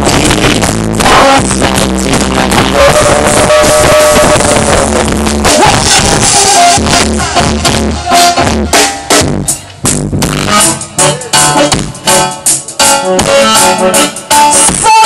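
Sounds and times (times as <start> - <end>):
live reggae band playing: 0.0 - 15.0.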